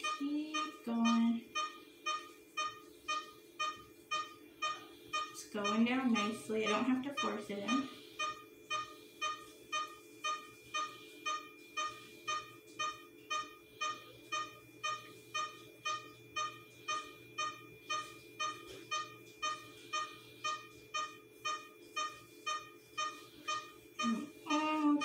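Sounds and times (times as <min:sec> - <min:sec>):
patient monitor beeping: 0:00.0 - 0:25.0
steady low hum: 0:00.0 - 0:25.0.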